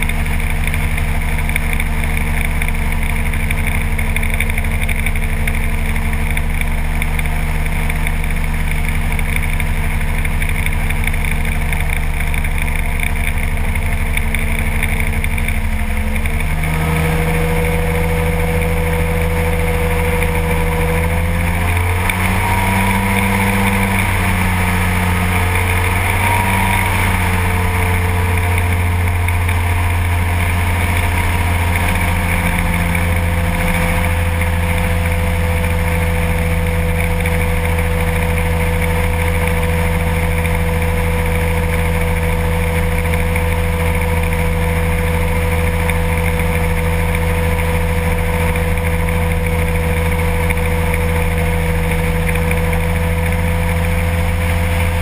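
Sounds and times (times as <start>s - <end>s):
ultralight aircraft engine droning: 0.0s - 55.0s.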